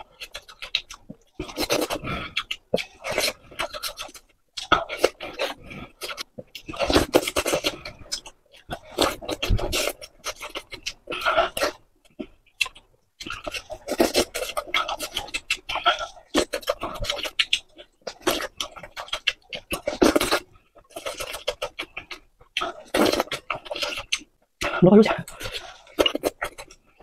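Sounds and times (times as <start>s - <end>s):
wet chewing mouth sounds: 0.0s - 27.0s.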